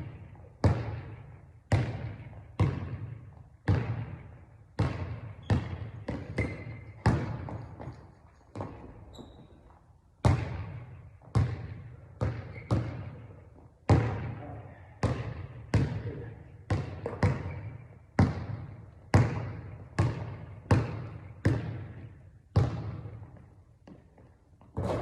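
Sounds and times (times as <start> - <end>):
basketball bouncing on floor: 0.0 - 25.0.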